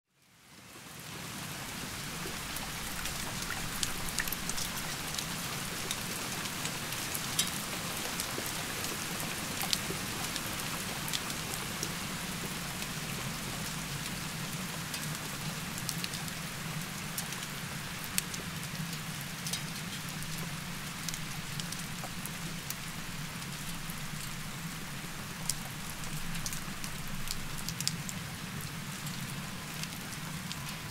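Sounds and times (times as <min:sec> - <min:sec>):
heavy rain falling: 0:00.5 - 0:30.9
raindrops tapping close by: 0:01.6 - 0:30.9.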